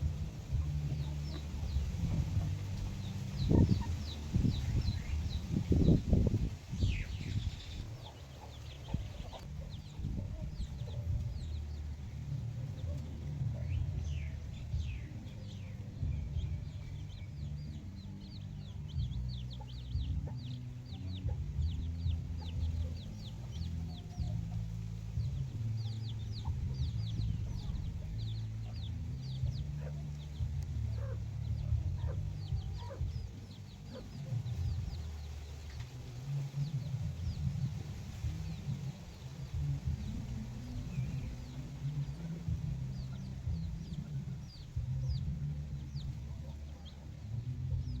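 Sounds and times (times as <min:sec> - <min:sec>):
chickens clucking: 0:00.0 - 0:48.0
low rumble: 0:00.0 - 0:48.0.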